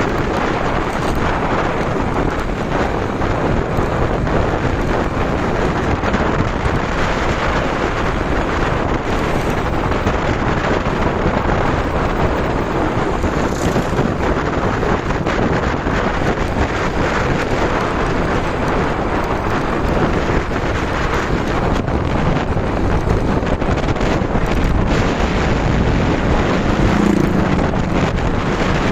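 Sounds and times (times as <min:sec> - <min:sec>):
motorcycle running: 0:00.0 - 0:28.9
wind buffeting microphone: 0:00.0 - 0:28.9.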